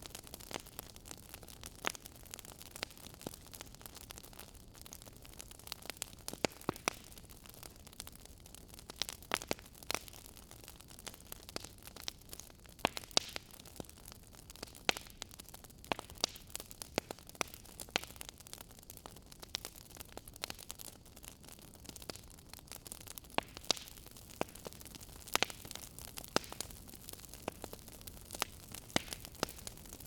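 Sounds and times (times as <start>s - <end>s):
fire popping and snapping: 0.0s - 30.0s.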